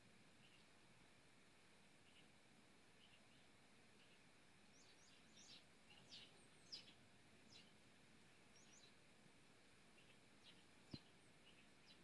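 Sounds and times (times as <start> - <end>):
starlings chirping: 0.0 - 0.8, 2.0 - 9.0, 9.9 - 12.0.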